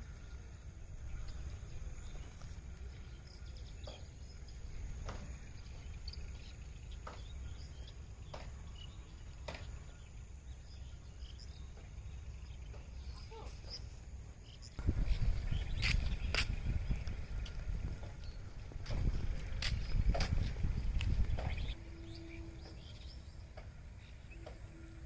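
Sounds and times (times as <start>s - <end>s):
steady low rumble: 0.0s - 24.8s.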